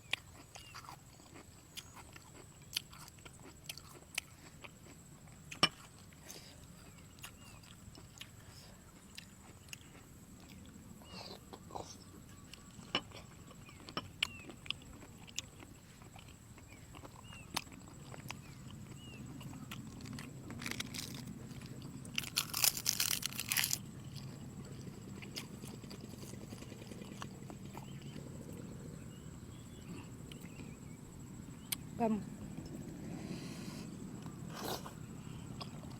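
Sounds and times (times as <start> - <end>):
chewing and crunching: 0.0 - 35.9.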